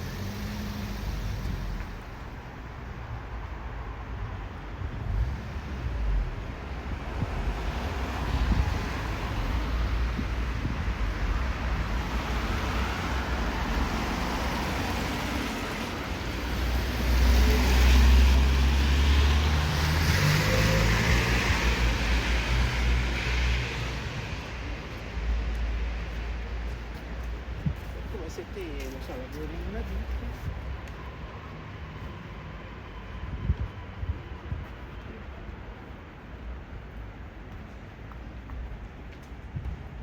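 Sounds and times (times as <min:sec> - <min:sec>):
traffic passing: 0:00.0 - 0:40.0.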